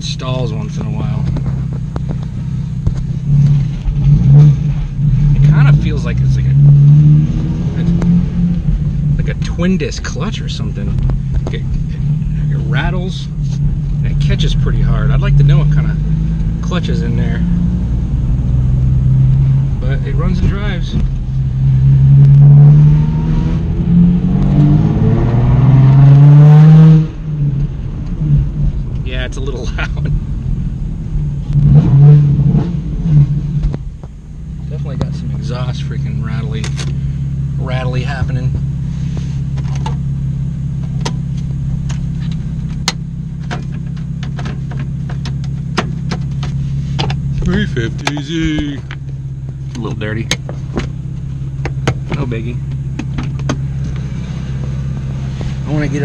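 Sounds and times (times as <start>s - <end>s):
exhaust rattling clicks: 0.0s - 22.4s, 27.2s - 56.0s
car engine accelerating hard: 0.0s - 56.0s.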